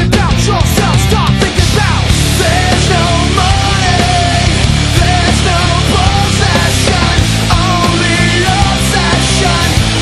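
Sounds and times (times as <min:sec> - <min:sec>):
heavy metal music: 0:00.0 - 0:10.0.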